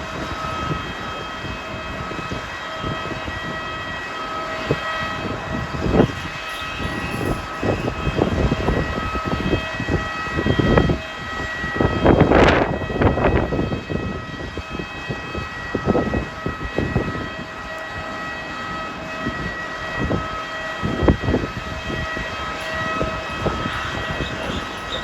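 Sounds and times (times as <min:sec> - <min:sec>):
high-pitched jet whine: 0:00.0 - 0:25.0
wind buffeting microphone: 0:00.0 - 0:25.0.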